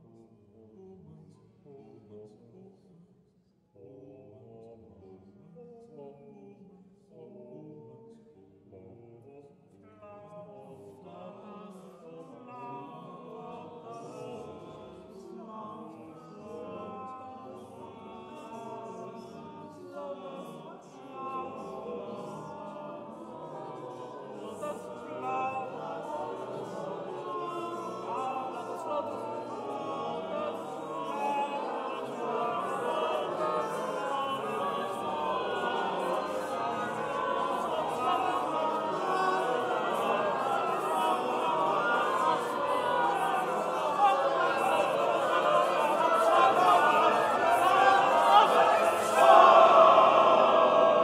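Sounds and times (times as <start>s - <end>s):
choir singing: 0.0s - 2.9s, 3.7s - 51.0s.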